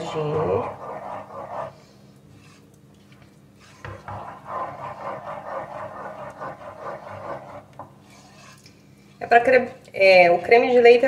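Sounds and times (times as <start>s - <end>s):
wooden spoon stirring in metal pot: 0.0s - 9.6s.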